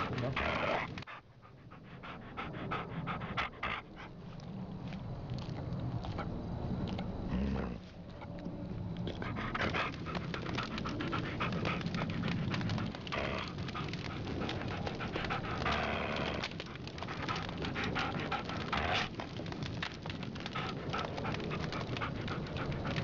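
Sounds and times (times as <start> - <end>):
breathy hisses: 0.0 - 5.0, 9.0 - 23.0
children panting and snuffling: 0.0 - 5.0, 9.0 - 23.0.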